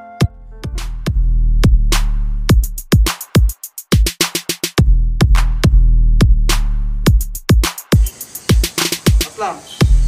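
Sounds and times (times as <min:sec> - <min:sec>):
electronic drum machine music: 0:00.0 - 0:10.0.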